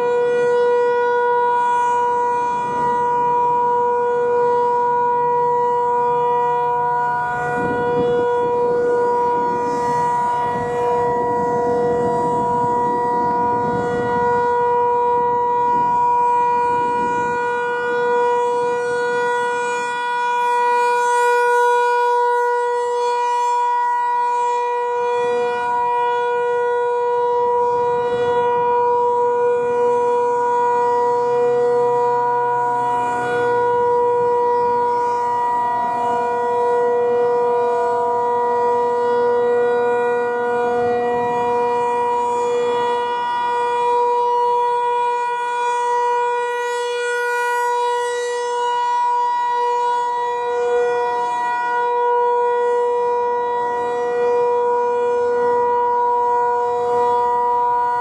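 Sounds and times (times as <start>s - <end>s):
electronic siren alert tone: 0.0s - 58.0s.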